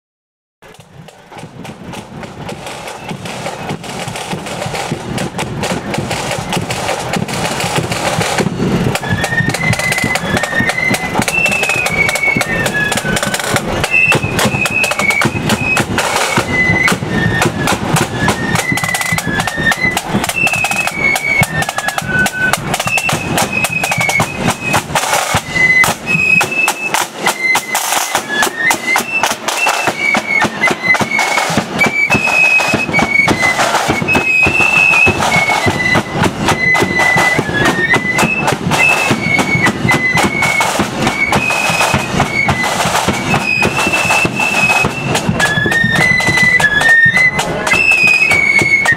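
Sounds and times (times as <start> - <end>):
flute band playing: 0.6 - 48.9
side drums: 0.6 - 48.9.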